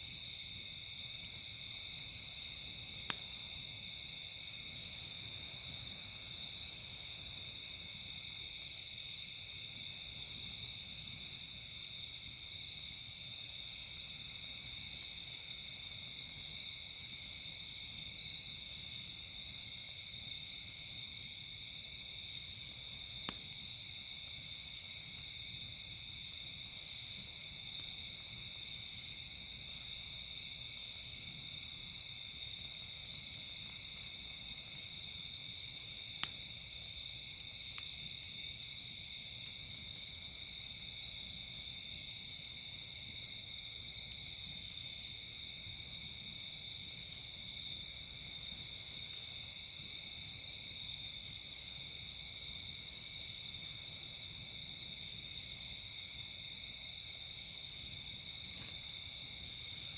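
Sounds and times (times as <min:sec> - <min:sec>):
campfire popping: 0:00.0 - 0:09.0, 0:09.9 - 0:40.5, 0:42.8 - 0:59.9
night insects chirping: 0:00.0 - 0:59.9.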